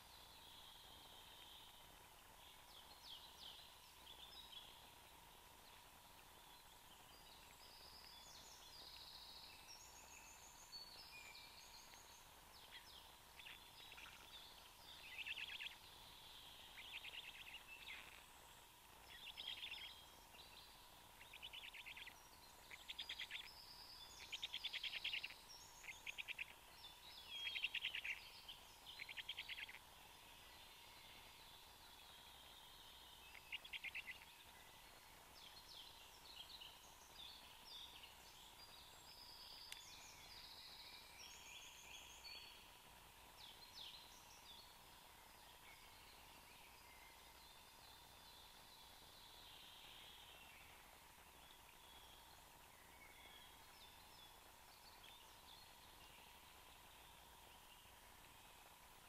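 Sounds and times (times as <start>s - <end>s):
songbirds singing trilled phrases: 0.0s - 58.7s
faint steady hum: 0.0s - 59.0s.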